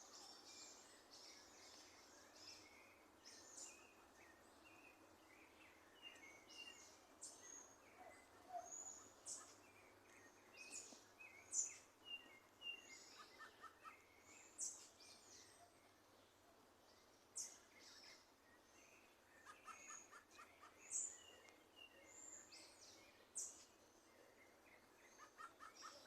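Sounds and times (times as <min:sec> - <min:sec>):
small birds chirping: 0:00.0 - 0:26.0
soft background hiss: 0:00.0 - 0:26.0.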